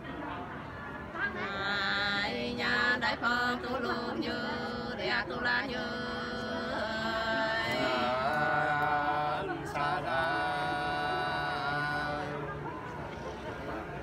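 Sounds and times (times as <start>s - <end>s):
unaccompanied folk singing: 1.1s - 14.0s.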